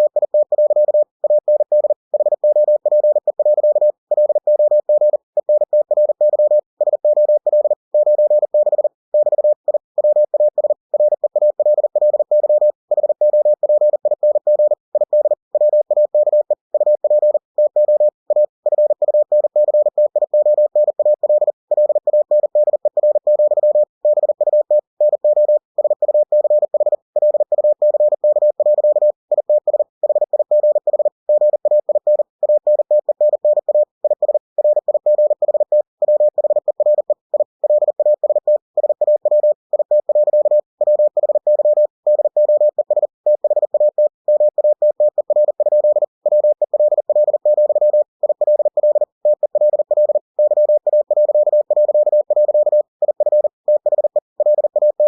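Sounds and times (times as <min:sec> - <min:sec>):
morse code tone: 0:00.0 - 0:55.0.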